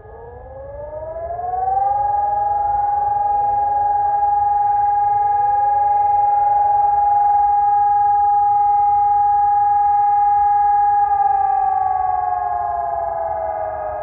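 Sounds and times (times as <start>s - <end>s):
fainter sirens gliding upward: 0.0s - 14.0s
loud steady siren tone: 0.0s - 14.0s.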